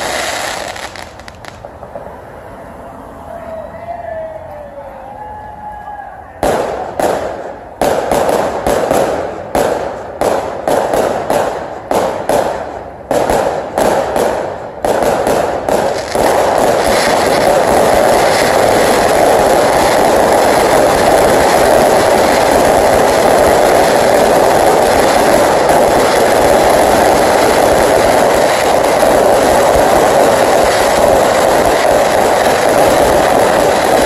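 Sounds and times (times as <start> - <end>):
fireworks exploding: 0.0 - 2.8, 6.4 - 34.0.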